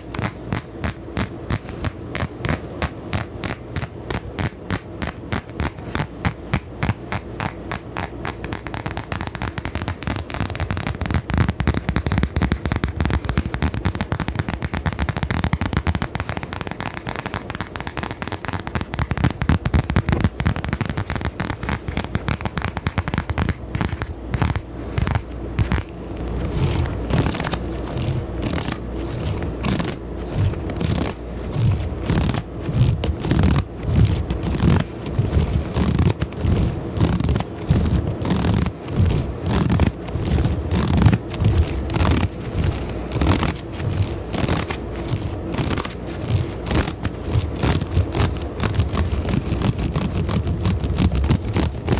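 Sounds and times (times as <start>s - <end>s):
crackling scratching on microphone: 0.0s - 51.9s.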